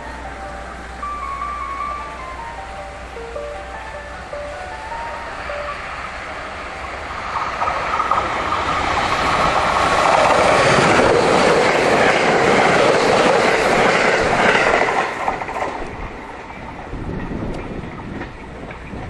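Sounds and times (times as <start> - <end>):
electric train passing at speed: 0.0 - 19.0.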